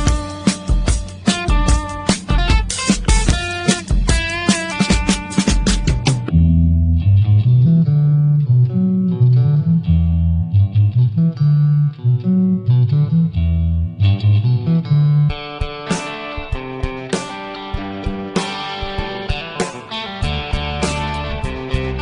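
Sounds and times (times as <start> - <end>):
bass line: 0.0 - 22.0
plucked guitar notes: 0.0 - 22.0.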